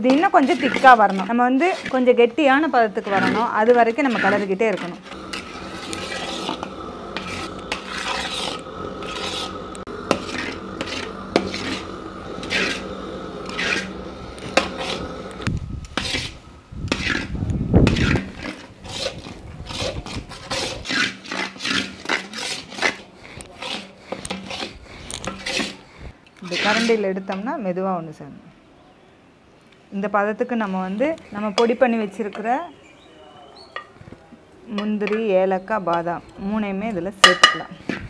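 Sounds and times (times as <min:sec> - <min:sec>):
metal ladle scraping a pan: 0:00.0 - 0:27.5, 0:30.9 - 0:32.5, 0:34.7 - 0:38.0.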